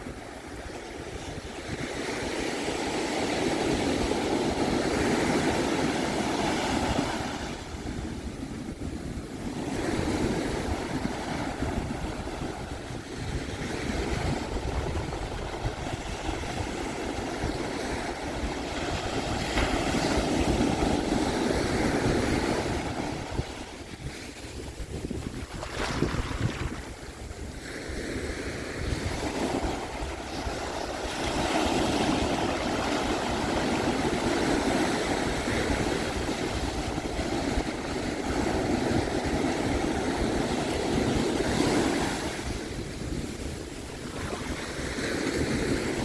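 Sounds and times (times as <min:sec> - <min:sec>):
surf washing onto sand: 0:00.0 - 0:46.0
wind on microphone: 0:00.0 - 0:46.0.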